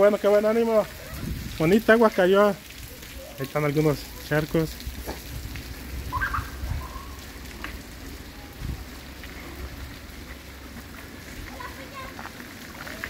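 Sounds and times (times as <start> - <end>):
rain pattering on wet pavement: 0.0 - 13.0.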